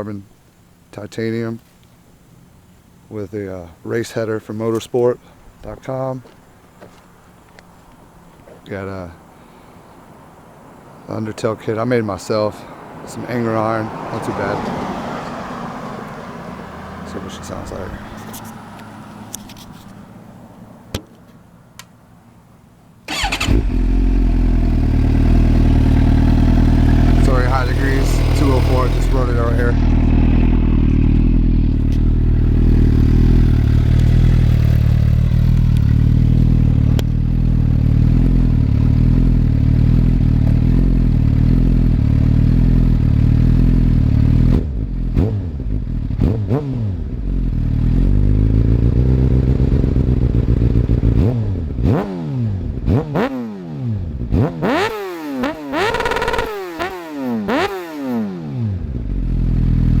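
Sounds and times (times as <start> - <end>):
motorcycle engine idling and revving: 10.0 - 60.0.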